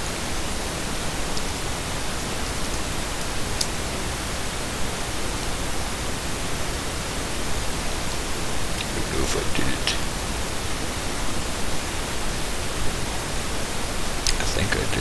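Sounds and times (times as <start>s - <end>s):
recording hiss: 0.0s - 15.0s.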